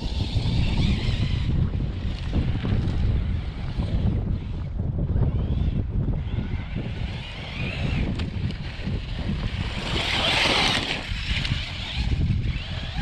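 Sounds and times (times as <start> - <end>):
electric motor whine: 0.0 - 13.0
wind buffeting microphone: 0.0 - 13.0.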